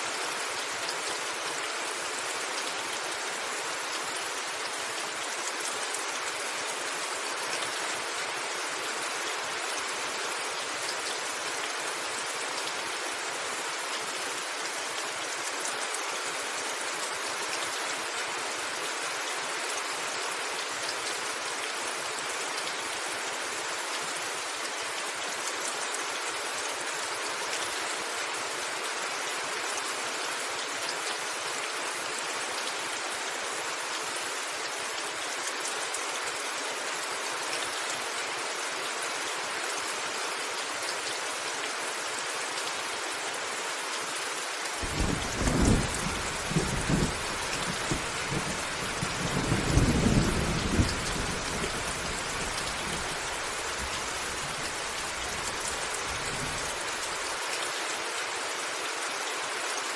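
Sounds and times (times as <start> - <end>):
rain drumming on a rooftop: 0.0 - 59.9.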